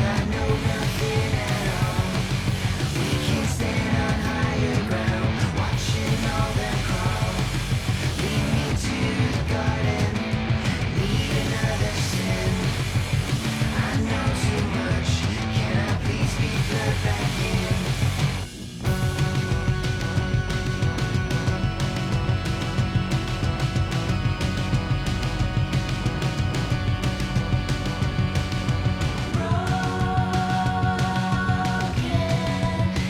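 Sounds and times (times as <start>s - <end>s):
person singing: 0.0s - 7.6s, 11.0s - 18.2s, 18.9s - 33.0s
rock music with electric guitar: 0.0s - 33.0s.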